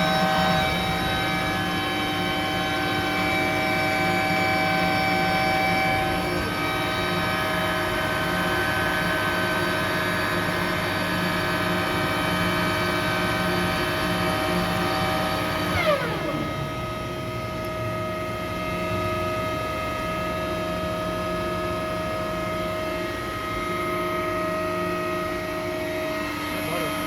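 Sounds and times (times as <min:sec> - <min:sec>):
chiller machine hum: 0:00.0 - 0:27.0.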